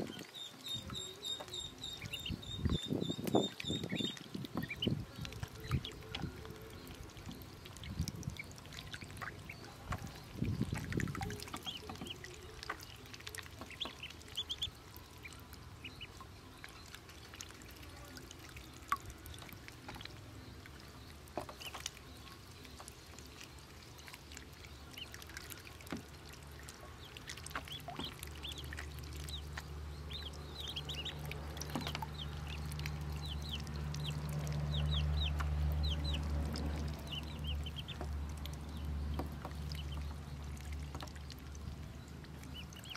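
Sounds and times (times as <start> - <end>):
ducklings peeping: 0.0 - 42.9
low steady hum: 0.0 - 42.9
water splashing: 0.0 - 42.9.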